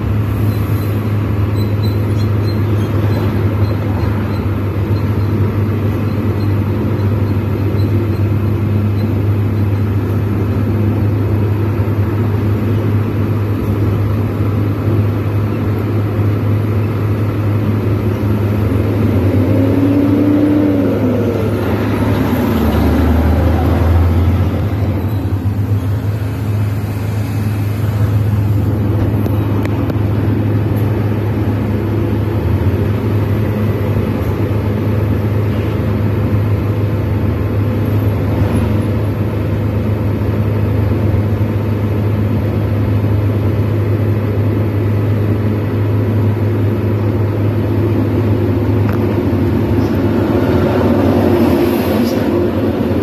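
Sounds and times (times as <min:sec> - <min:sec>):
tyre noise on paved road: 0:00.0 - 0:53.0
vehicle engine drone: 0:00.0 - 0:53.0.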